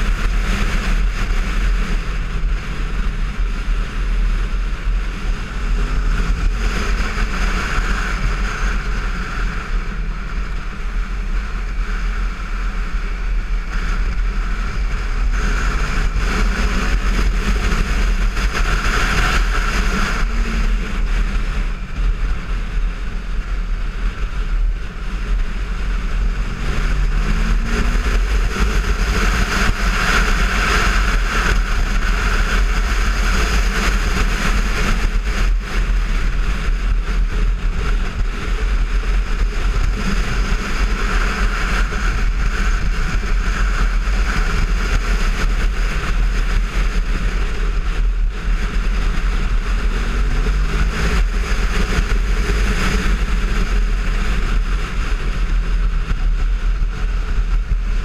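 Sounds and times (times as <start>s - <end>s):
motorcycle engine running: 0.0s - 58.0s
wind rush over microphone: 0.0s - 58.0s.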